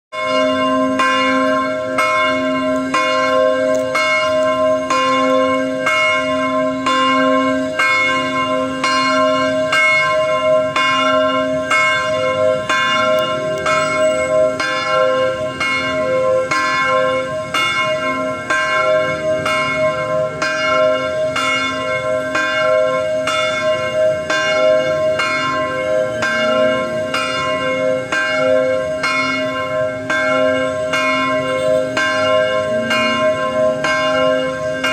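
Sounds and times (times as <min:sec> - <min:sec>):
church bell ringing: 0:00.1 - 0:34.9.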